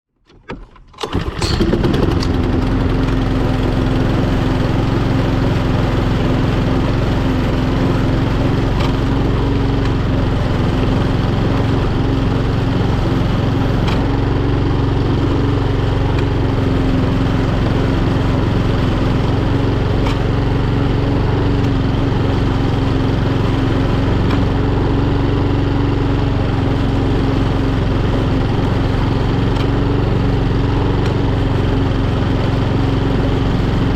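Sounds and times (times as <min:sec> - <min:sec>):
lawnmower engine running: 0:00.2 - 0:33.9.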